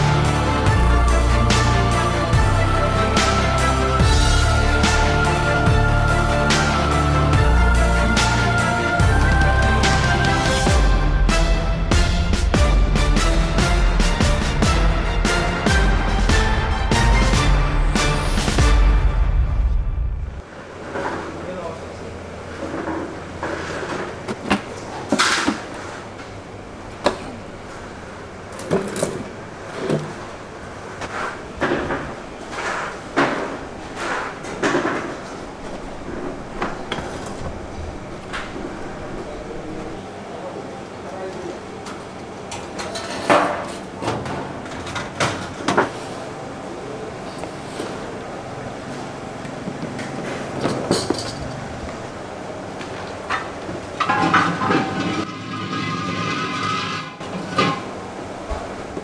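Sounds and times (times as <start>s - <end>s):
low hum and hiss: 0.0s - 59.0s
steady background noise: 0.0s - 59.0s.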